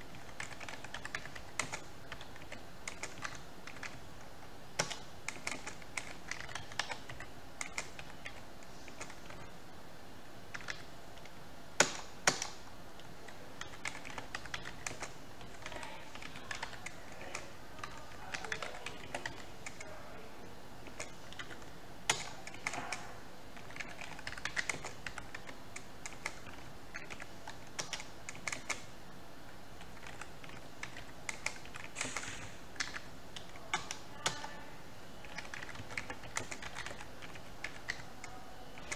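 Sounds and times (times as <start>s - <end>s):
typing on computer keyboard: 0.0s - 4.1s, 4.8s - 9.5s, 10.5s - 20.0s, 20.8s - 28.9s, 29.8s - 34.5s, 35.2s - 38.9s.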